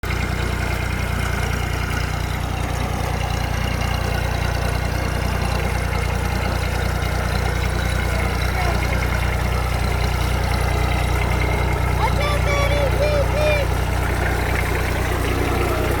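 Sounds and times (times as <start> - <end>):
tractor engine humming: 0.0 - 16.0.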